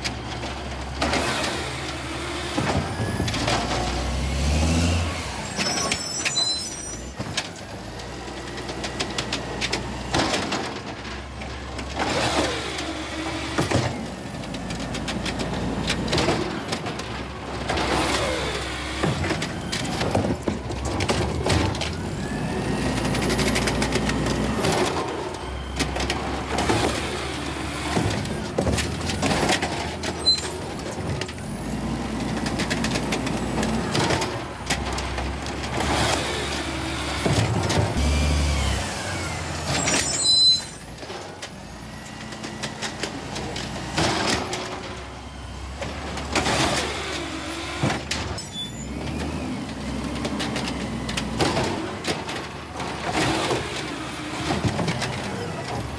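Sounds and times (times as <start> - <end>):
cart clanking against hopper: 0.0 - 55.9
garbage truck engine revving: 0.0 - 55.9.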